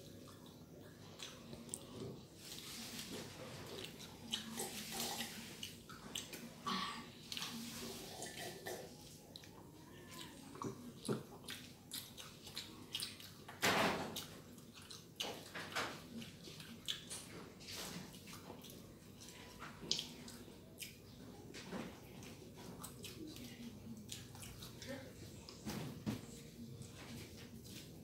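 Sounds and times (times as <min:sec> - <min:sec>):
wet chewing and lip smacking: 0:00.0 - 0:02.7, 0:03.5 - 0:25.6.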